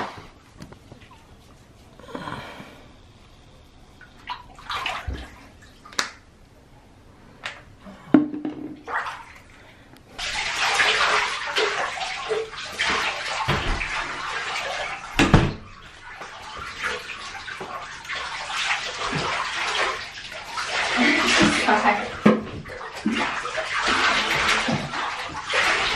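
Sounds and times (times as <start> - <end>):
water running in bathtub: 0.0 - 6.3, 7.4 - 25.9.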